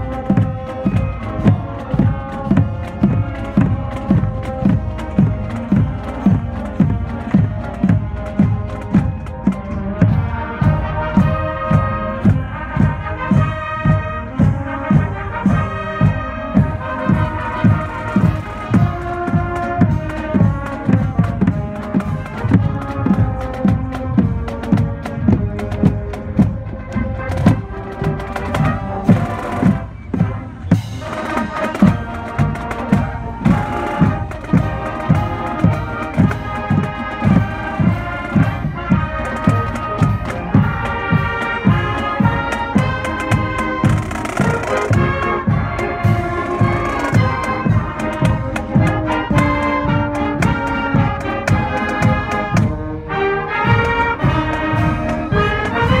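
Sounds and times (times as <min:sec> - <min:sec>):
brass instruments playing melody: 0:00.0 - 0:56.0.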